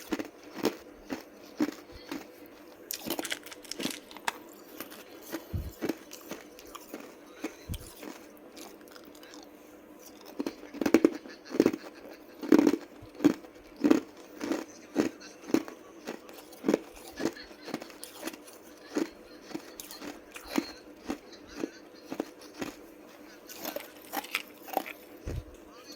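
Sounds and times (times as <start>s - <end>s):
ice being crunched and chewed: 0.0s - 25.5s.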